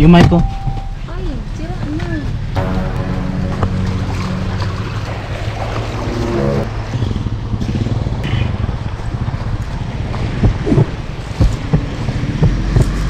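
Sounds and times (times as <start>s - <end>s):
vehicle rumbling over rough ground: 0.0s - 13.0s.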